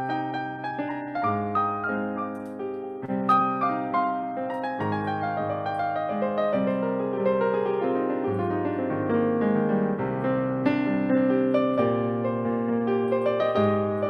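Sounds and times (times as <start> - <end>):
piano playing: 0.0 - 14.0.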